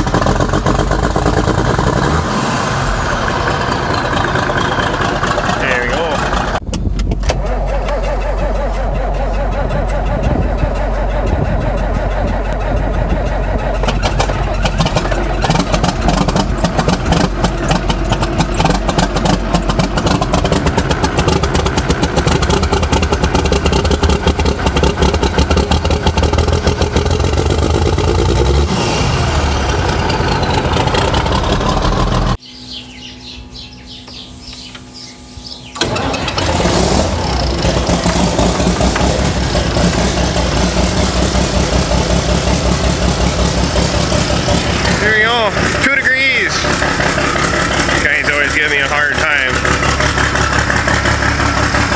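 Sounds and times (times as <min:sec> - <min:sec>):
tractor diesel engines starting: 0:00.0 - 0:32.4, 0:33.0 - 0:51.9
quiet engine running: 0:00.0 - 0:51.9
rising engine whine: 0:00.0 - 0:51.9.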